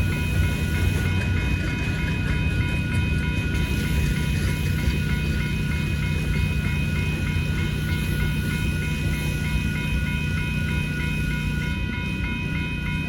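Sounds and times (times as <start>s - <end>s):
crossing bell ringing: 0.0s - 13.0s
freight cars rumbling: 0.0s - 13.0s.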